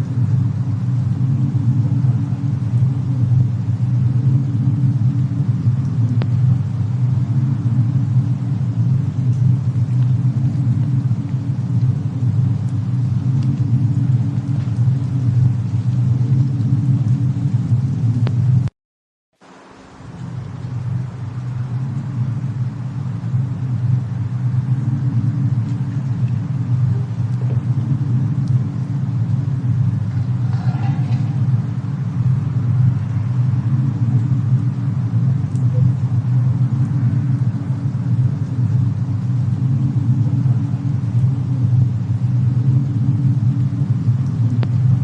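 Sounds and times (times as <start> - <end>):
faint fire crackles: 0.0 - 18.7, 19.4 - 45.0
steady low rumble: 0.0 - 18.7, 19.4 - 45.0.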